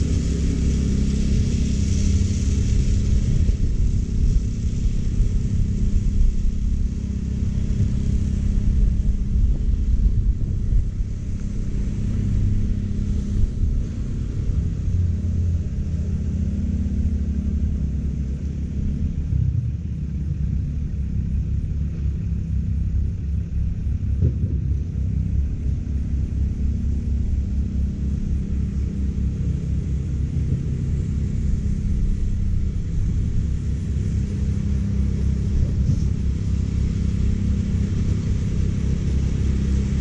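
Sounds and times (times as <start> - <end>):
reel mower engine running: 0.0 - 19.3, 20.0 - 40.0.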